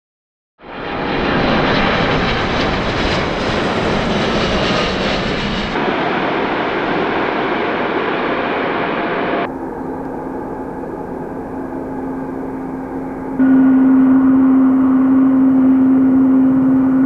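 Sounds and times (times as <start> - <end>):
airliner thrust reversers: 0.6 - 9.5, 10.2 - 17.0
jet engine roar: 0.6 - 17.0.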